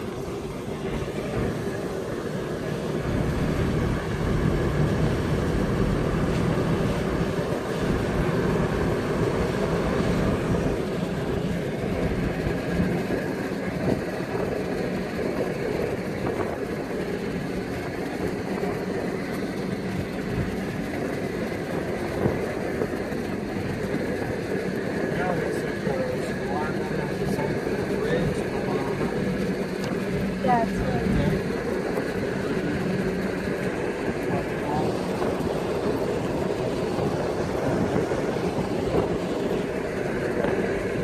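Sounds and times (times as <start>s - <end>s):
car engine running: 0.0s - 41.0s
wind rush: 0.0s - 41.0s.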